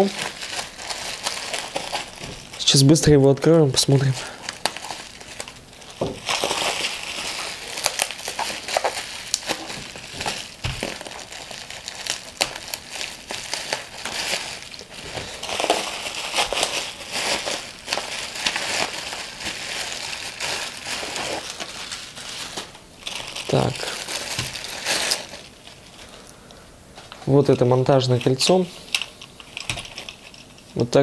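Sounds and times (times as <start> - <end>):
bubble wrap and plastic crinkling: 0.0 - 31.0.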